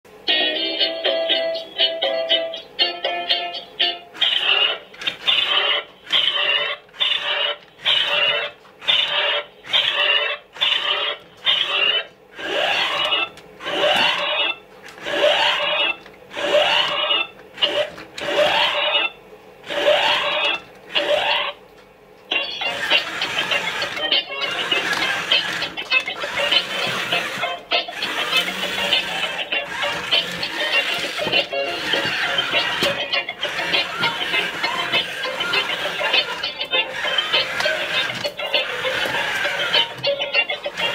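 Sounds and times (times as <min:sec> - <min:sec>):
toy robot harsh pulsing sound: 0:04.2 - 0:21.6, 0:22.3 - 0:40.9.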